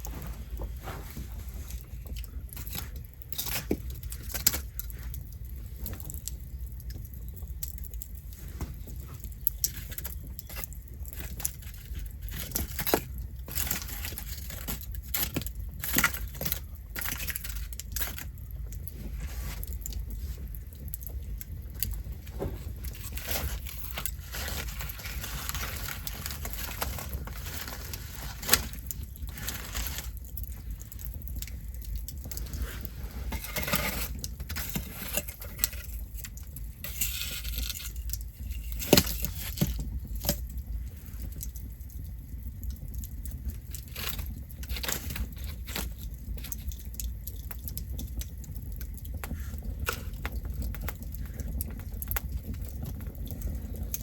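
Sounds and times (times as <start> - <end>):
campfire crackling and popping: 0.0 - 54.0
low rumble of flame: 0.0 - 54.0.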